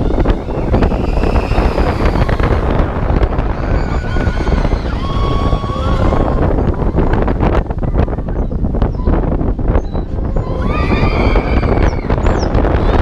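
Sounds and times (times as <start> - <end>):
roller coaster rumbling on track: 0.0 - 13.0
wind buffeting microphone: 0.0 - 13.0.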